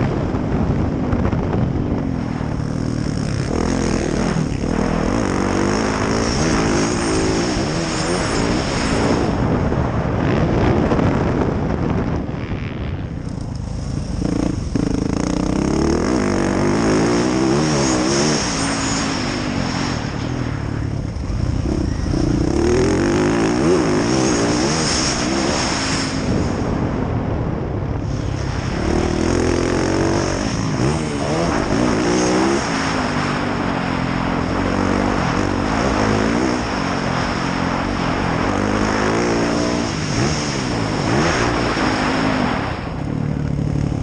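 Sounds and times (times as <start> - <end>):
constant rushing noise: 0.0 - 44.0
motorcycle engine revving: 0.0 - 44.0.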